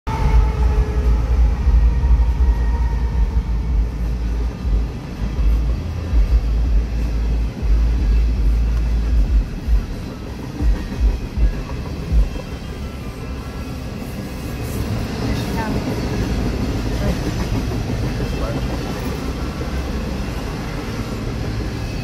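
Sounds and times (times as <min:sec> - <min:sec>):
diesel locomotive hum: 0:00.1 - 0:22.0.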